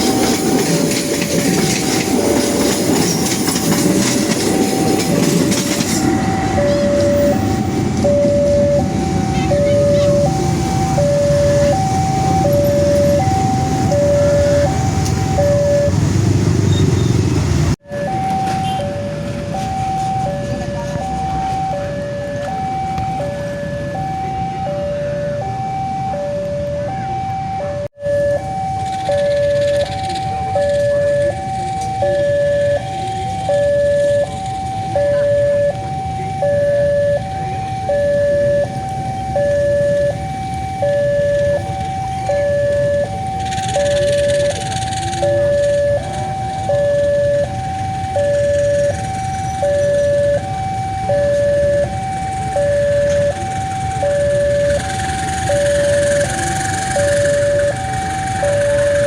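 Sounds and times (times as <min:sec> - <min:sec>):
level-crossing alarm two-tone signal: 0:00.0 - 0:59.0.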